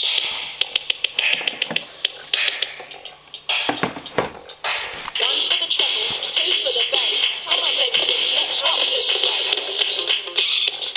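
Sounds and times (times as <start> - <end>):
tinny hip hop music from speaker: 0.0 - 10.9.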